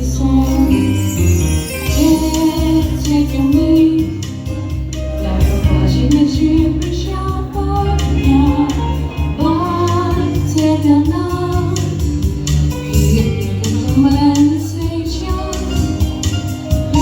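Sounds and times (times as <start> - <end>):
backing track with bass and beat: 0.0 - 17.0
woman singing: 0.0 - 17.0.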